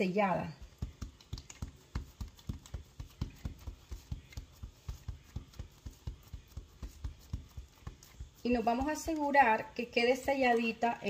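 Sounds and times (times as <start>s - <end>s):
hands patting dough: 0.0s - 11.0s.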